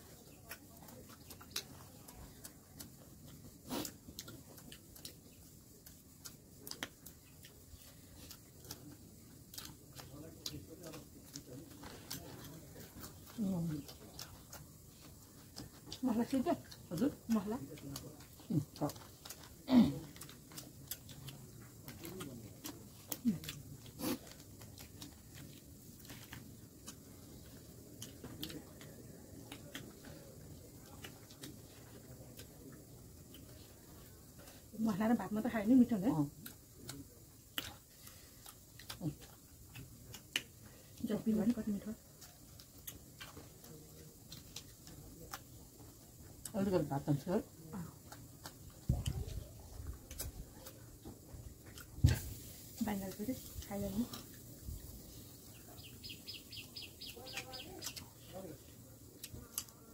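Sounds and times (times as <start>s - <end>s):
eating clicks and smacks: 0.0s - 34.8s, 36.3s - 46.9s, 47.5s - 59.9s.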